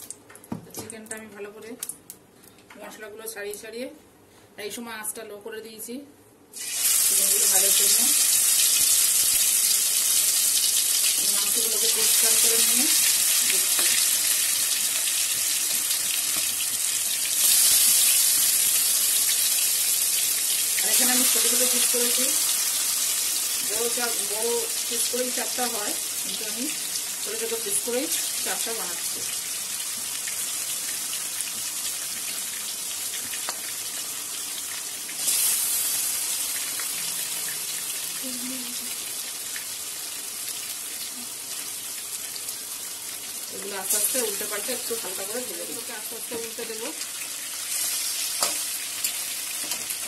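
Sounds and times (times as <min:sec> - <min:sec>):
sizzling hiss with crackles: 0:06.5 - 0:50.0
chicken frying in hot oil: 0:06.6 - 0:50.0.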